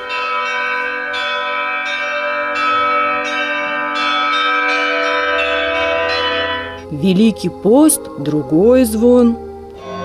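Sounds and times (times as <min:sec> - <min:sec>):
church bells ringing a peal: 0:00.0 - 0:10.0.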